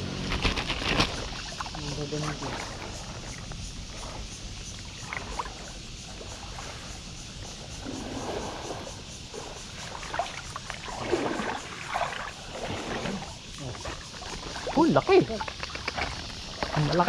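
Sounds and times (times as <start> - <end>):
water sloshing and splashing: 0.0 - 17.0.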